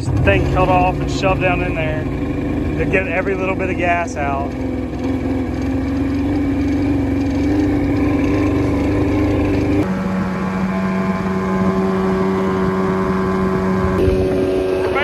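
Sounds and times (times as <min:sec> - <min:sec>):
outboard boat motor running: 0:00.0 - 0:15.0.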